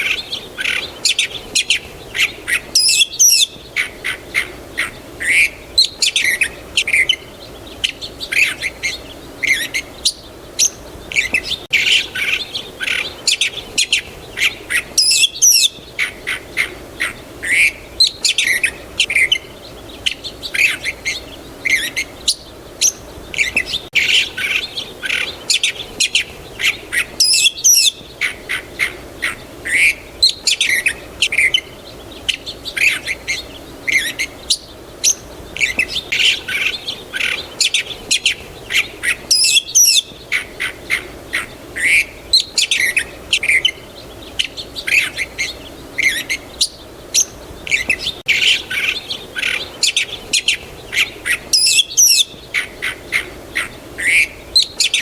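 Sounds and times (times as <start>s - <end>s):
faint low background hiss: 0.0s - 55.0s
small birds chirping: 0.0s - 55.0s.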